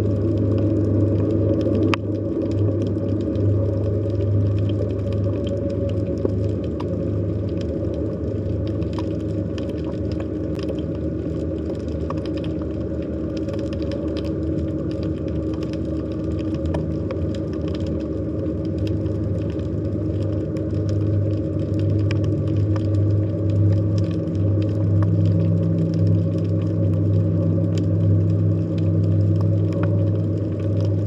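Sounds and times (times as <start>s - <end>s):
faint crackling clicks: 0.0s - 31.0s
underwater low drone: 0.0s - 31.0s.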